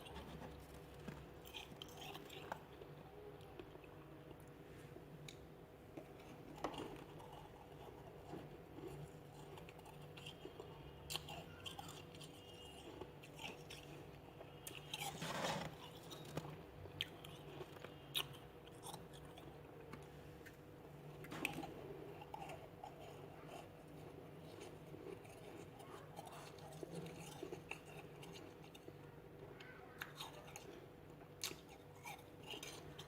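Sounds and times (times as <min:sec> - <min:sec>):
person chewing frost crunches: 0:00.0 - 0:33.0.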